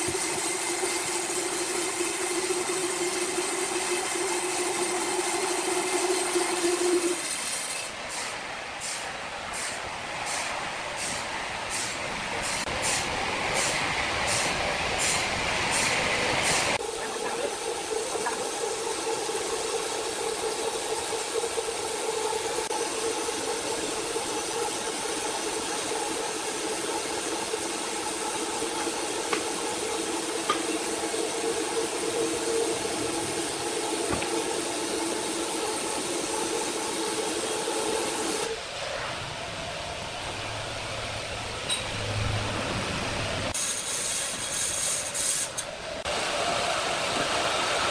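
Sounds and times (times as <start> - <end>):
sawmill machinery hum: 0.0 - 47.9.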